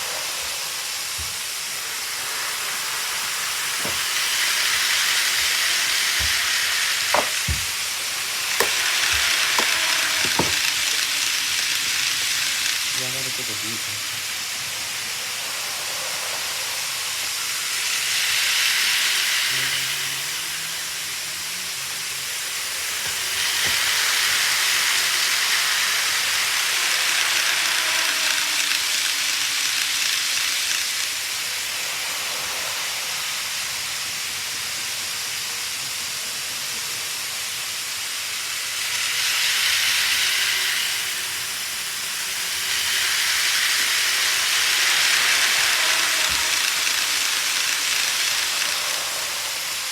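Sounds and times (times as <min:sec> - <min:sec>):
model trains running on track: 0:00.0 - 0:49.9.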